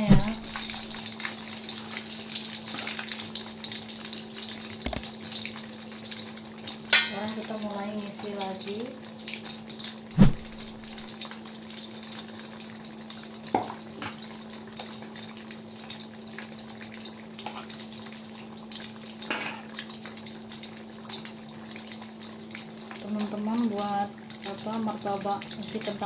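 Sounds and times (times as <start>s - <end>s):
deep-frying sizzle in oil: 0.0s - 26.0s.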